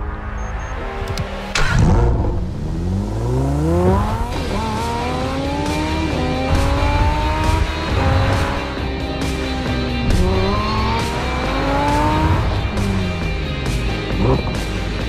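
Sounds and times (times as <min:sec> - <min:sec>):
car engine accelerating hard: 0:01.6 - 0:15.0.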